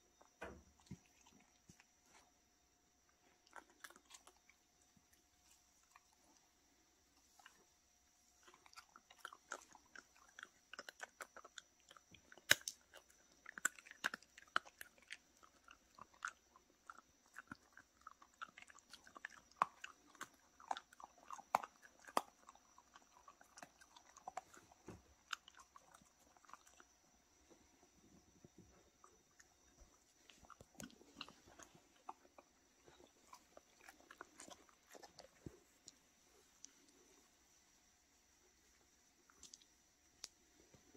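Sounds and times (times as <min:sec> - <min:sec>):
dogs chewing and crunching: 0:00.2 - 0:02.4, 0:03.1 - 0:37.2.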